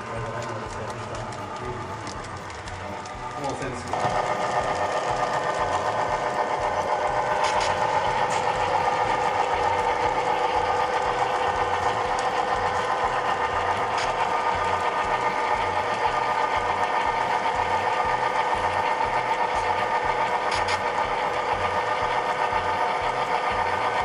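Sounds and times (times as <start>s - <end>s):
model train motor whine: 0.0s - 24.0s
wheels pulsing on rails: 0.0s - 24.0s.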